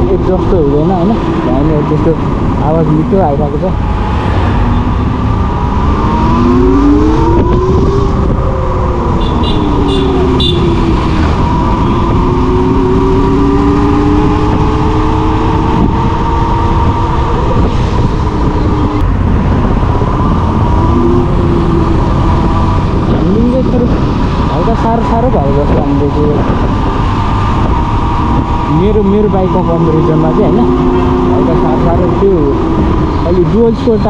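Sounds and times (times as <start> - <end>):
heavy low rumble: 0.0 - 34.0.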